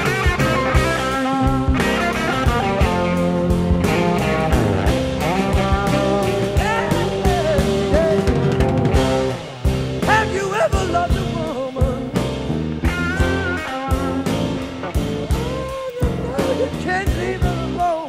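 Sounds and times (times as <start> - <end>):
rock music: 0.0 - 18.0.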